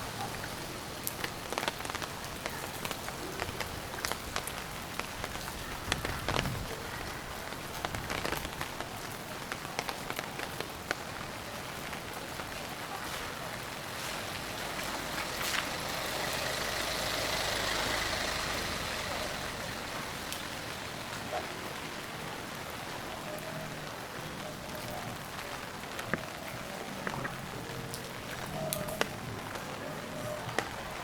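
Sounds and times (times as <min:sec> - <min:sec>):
steady rain: 0:00.0 - 0:31.0
vehicle passing on wet street: 0:00.0 - 0:31.0.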